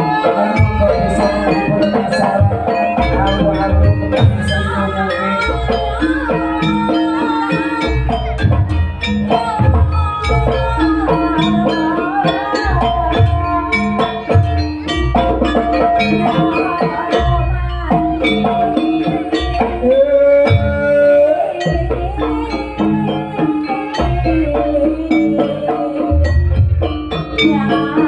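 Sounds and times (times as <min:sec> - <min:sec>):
hand drums: 0:00.0 - 0:28.0
sliding melody line: 0:00.0 - 0:28.0.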